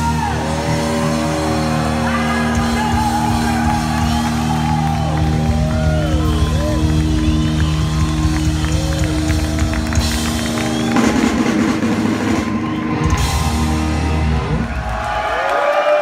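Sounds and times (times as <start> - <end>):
drums and cymbals crashing: 0.0 - 15.0
electric guitars playing chords: 0.0 - 15.0.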